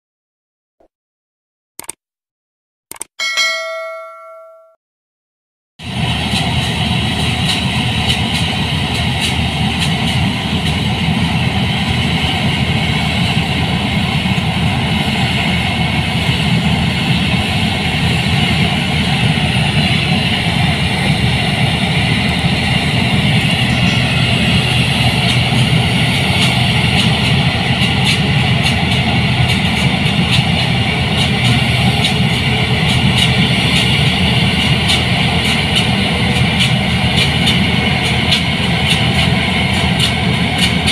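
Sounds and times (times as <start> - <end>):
combine harvester drone: 5.8 - 40.9.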